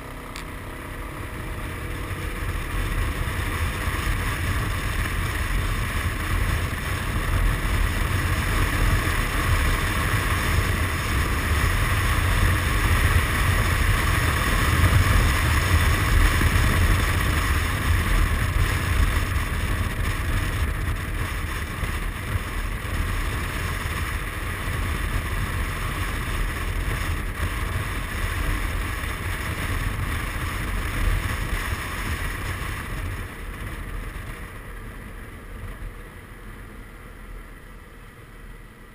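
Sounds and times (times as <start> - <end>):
scooter engine and tyres: 0.0 - 38.9
wind rushing on microphone: 0.4 - 36.1.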